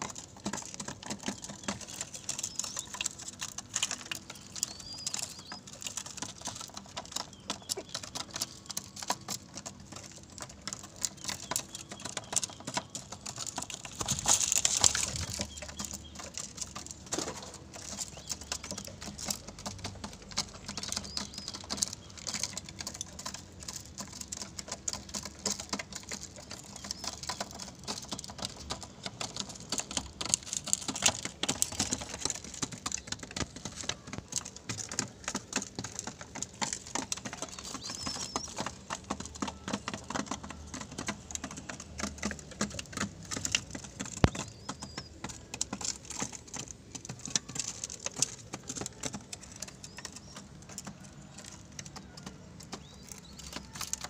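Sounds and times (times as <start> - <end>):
doves pecking on concrete: 0.0 - 54.0.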